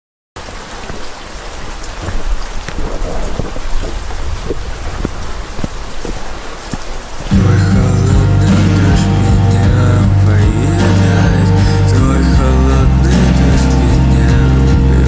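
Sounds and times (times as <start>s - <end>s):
steady rain: 0.4s - 15.0s
thunder rumbling: 0.8s - 15.0s.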